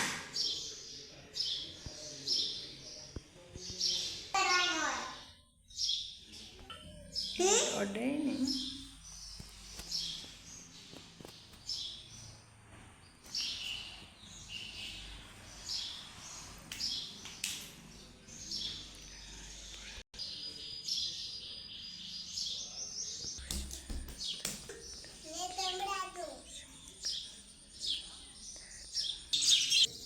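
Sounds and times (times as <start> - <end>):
small birds chirping: 0.3 - 30.0.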